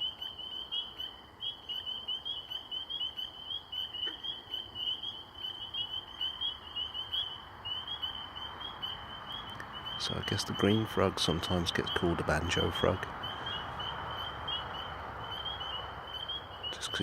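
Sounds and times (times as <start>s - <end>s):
frogs peeping chorus: 0.0s - 17.0s.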